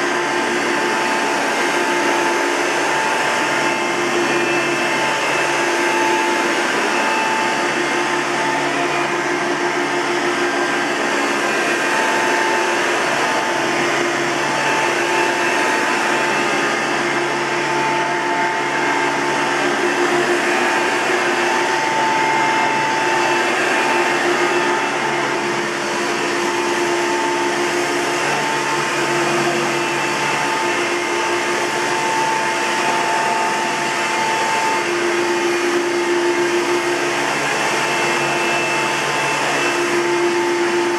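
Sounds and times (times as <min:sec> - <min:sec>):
vacuum cleaner running: 0:00.0 - 0:40.9
whining tones: 0:00.0 - 0:40.9.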